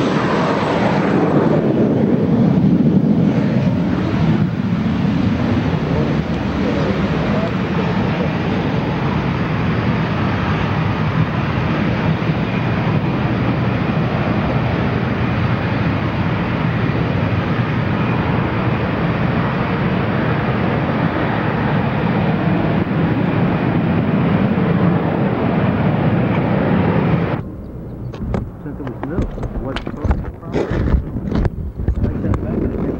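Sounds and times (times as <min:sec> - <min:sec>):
jet engines taxiing: 0:00.0 - 0:32.9.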